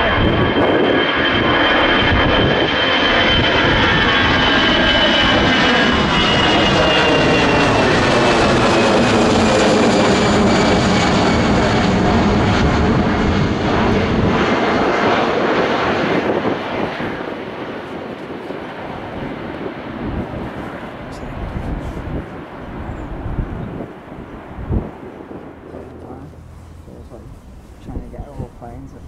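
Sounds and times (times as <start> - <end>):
jet airliner climbing: 0.0 - 29.0.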